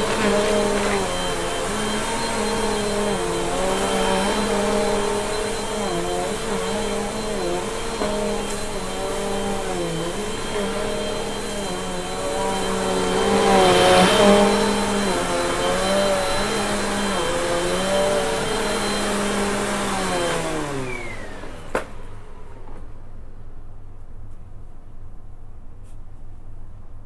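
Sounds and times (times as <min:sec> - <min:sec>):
vacuum cleaner running on carpet: 0:00.0 - 0:22.8.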